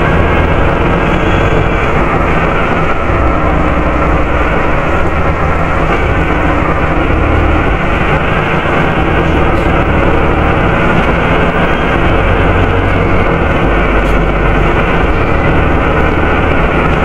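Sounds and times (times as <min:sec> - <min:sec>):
engine cooling fan rushing: 0:00.0 - 0:17.0
engine low hum: 0:00.0 - 0:17.0.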